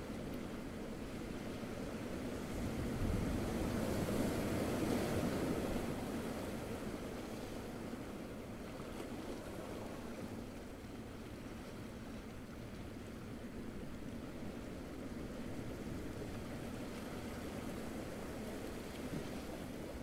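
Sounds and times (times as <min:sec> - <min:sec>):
small waves washing onto beach: 0:00.0 - 0:20.0.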